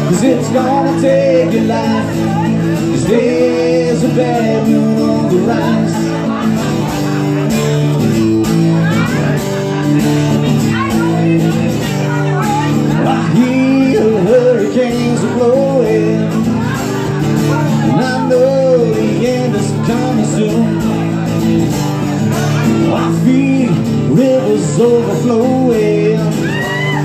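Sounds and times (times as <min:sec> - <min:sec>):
man singing through microphone: 0:00.0 - 0:07.4, 0:10.7 - 0:21.5, 0:22.2 - 0:27.0
acoustic guitar strumming: 0:00.0 - 0:27.0.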